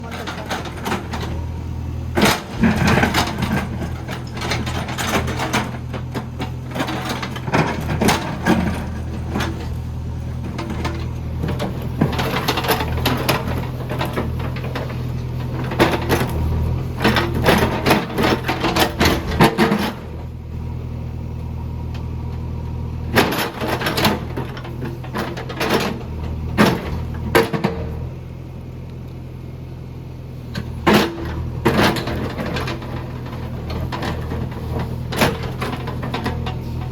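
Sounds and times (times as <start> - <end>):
diesel engine running under load: 0.0 - 36.9.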